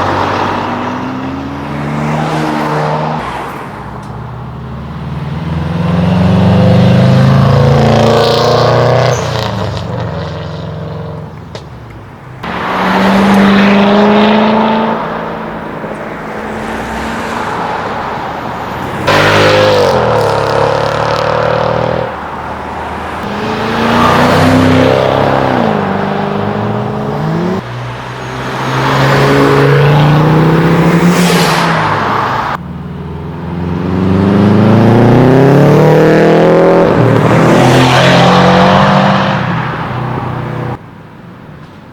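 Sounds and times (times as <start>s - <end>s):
car engines accelerating: 0.0s - 11.3s, 12.2s - 40.8s.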